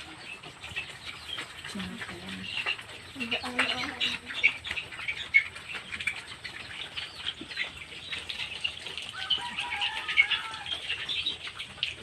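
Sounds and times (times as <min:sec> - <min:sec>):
drawn-out bird call: 0:00.0 - 0:11.5
birds chirping: 0:00.0 - 0:12.0.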